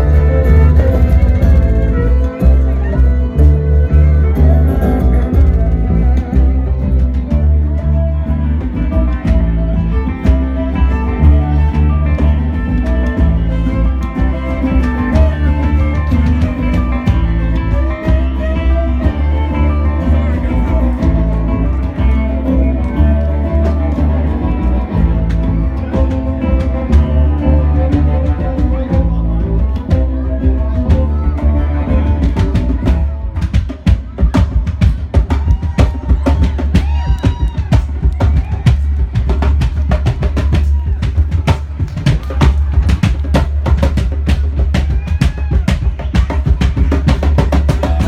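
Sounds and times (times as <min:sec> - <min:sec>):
drum kit beat: 0:00.0 - 0:23.1, 0:23.8 - 0:48.0
acoustic folk band playing: 0:00.0 - 0:48.0
bass line: 0:00.0 - 0:48.0.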